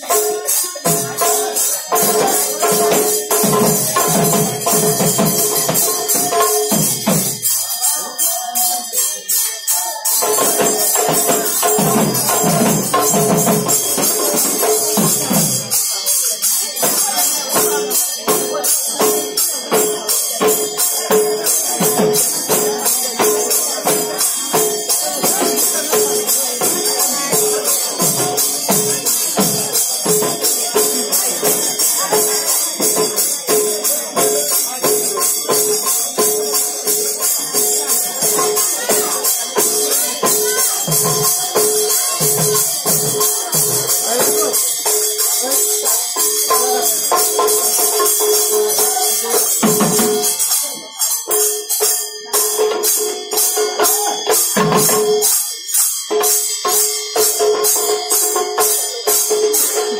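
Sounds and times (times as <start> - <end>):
fast jingling cymbals: 0.0 - 59.9.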